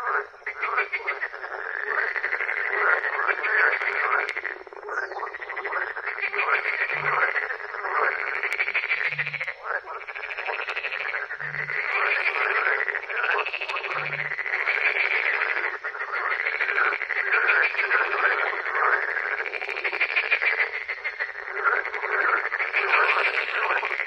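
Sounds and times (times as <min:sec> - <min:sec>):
frogs croaking in chorus: 0:00.0 - 0:24.0.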